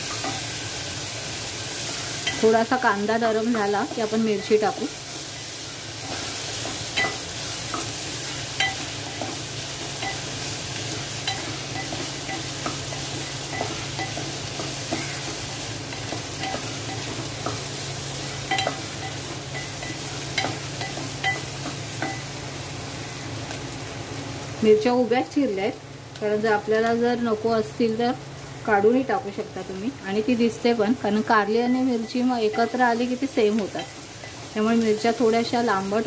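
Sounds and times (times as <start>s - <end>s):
onion sizzling in oil: 0.0s - 36.0s.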